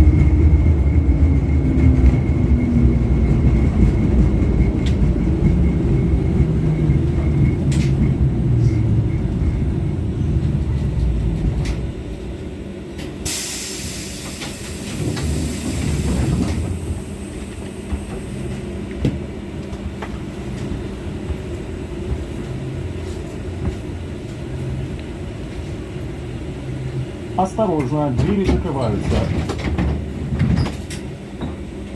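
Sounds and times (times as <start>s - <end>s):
tram running rumble: 0.0s - 31.9s.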